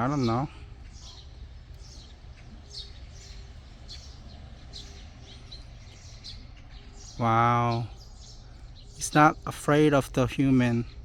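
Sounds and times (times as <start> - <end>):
birds chirping: 0.0 - 11.0
low park background hum: 0.0 - 11.0.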